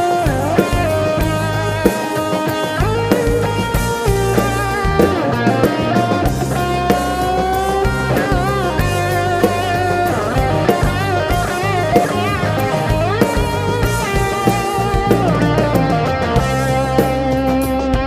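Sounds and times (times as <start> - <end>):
lead electric guitar bending notes: 0.0 - 18.0
rock band playing: 0.0 - 18.0.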